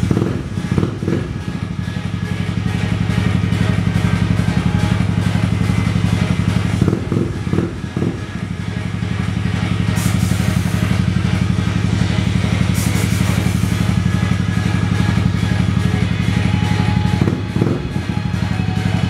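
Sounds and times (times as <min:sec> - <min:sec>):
scooter engine idling: 0:00.0 - 0:19.0.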